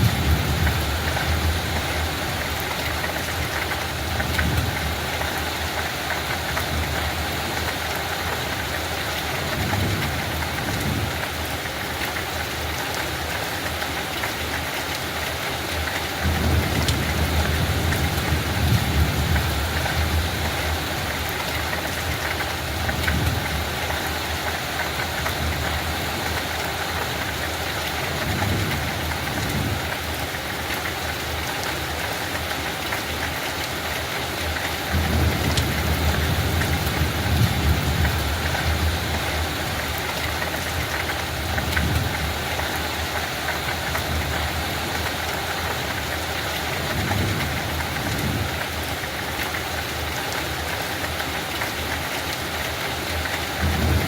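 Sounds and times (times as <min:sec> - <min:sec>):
steady light rain: 0:00.0 - 0:54.0.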